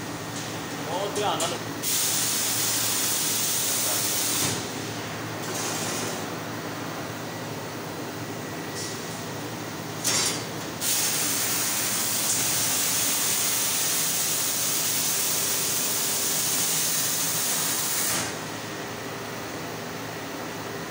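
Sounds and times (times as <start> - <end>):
steady machine hum: 0.0 - 20.9.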